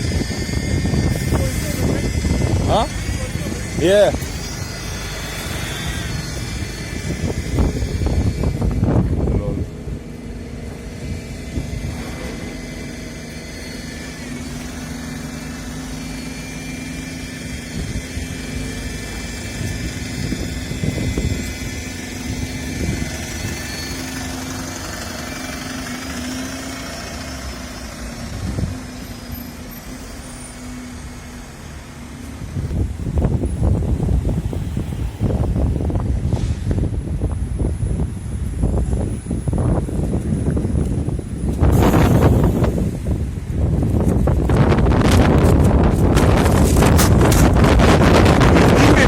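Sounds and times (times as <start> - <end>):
wind buffeting microphone: 0.0 - 16.0, 17.0 - 24.9, 28.2 - 29.0, 32.3 - 49.0
bus engine humming and whining: 0.0 - 49.0.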